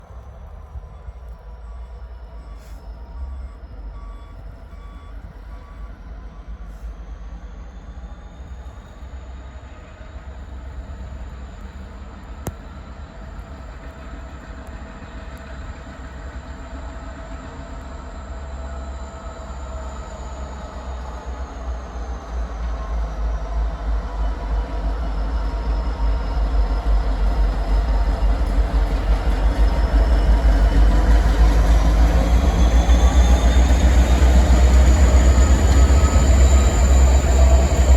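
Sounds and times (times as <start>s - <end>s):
faint high whine: 0.0s - 37.9s
train rumbling: 0.0s - 37.9s.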